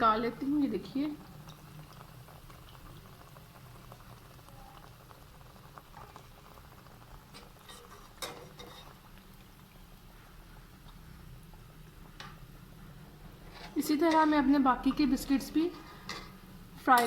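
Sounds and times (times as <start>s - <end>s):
oil bubbling while frying: 0.0s - 17.0s.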